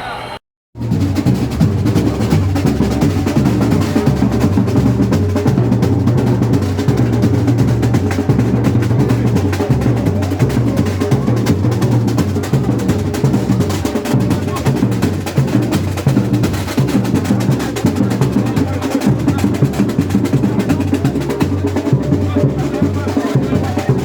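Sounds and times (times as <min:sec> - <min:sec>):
percussion-led carnival music: 0:00.0 - 0:24.0.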